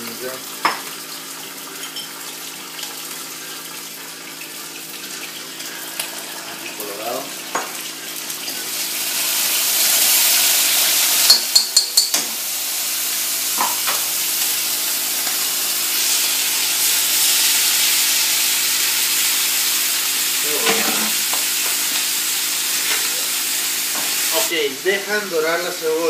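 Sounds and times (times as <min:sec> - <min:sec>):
aromatics sizzling in hot oil: 0:00.0 - 0:26.0.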